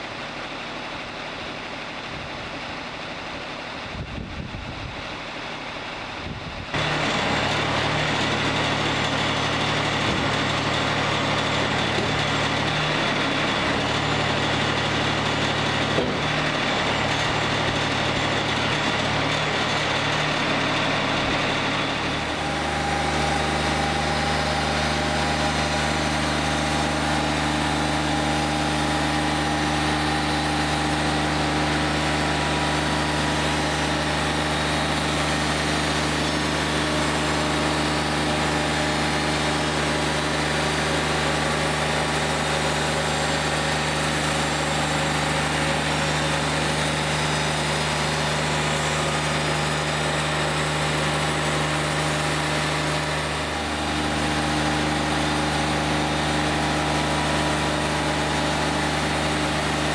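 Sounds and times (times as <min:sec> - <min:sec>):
sawmill engine humming: 0:00.0 - 0:59.9.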